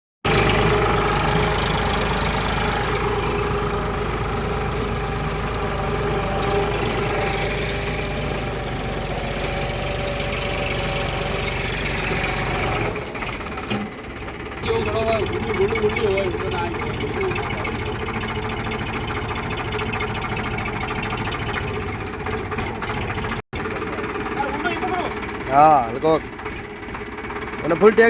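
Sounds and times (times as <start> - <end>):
tractor engine running steadily: 0.2 - 28.0.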